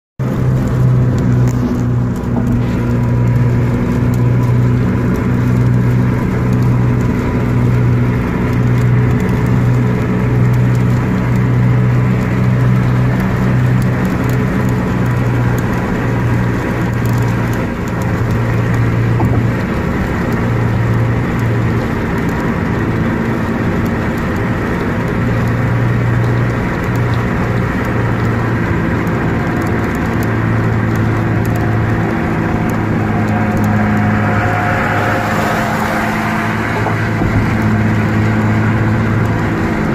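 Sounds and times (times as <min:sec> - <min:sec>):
car engine hum: 0:00.2 - 0:39.9
rain: 0:00.2 - 0:39.9
road noise: 0:00.2 - 0:39.9.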